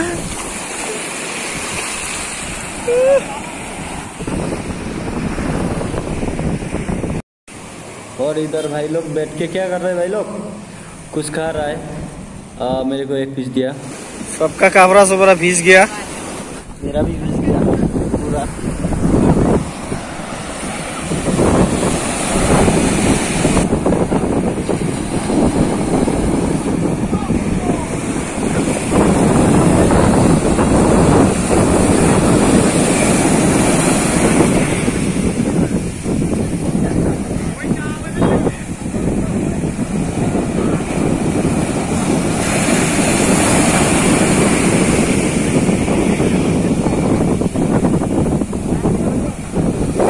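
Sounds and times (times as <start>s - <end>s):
sea waves breaking on beach: 0.0s - 50.0s
wind buffeting microphone: 0.0s - 50.0s.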